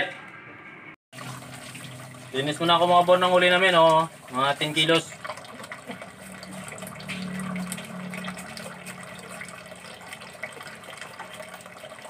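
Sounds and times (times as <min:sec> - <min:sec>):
water running and splashing: 0:01.1 - 0:12.0.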